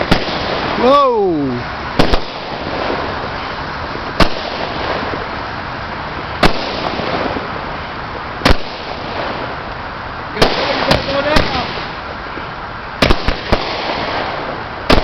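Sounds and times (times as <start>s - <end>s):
fireworks bangs: 0.0s - 15.0s
steady background hiss: 0.0s - 15.0s.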